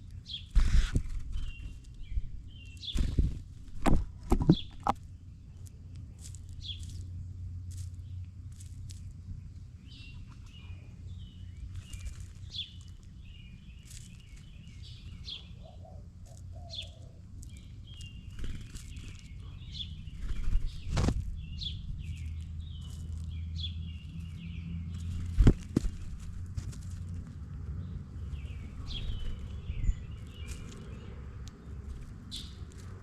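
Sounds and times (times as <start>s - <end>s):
small birds chirping: 0.0s - 33.0s
steady low rumble: 0.0s - 33.0s.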